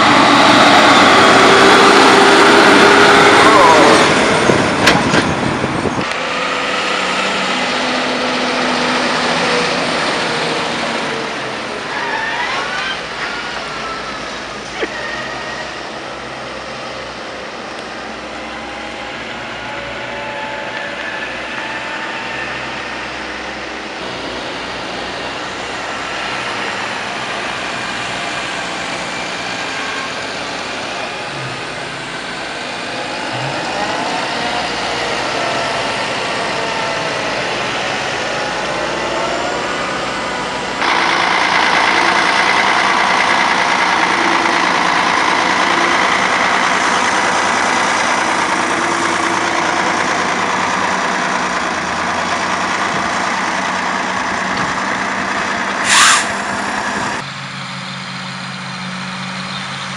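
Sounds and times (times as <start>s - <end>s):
diesel tractor engines running: 0.0s - 59.9s.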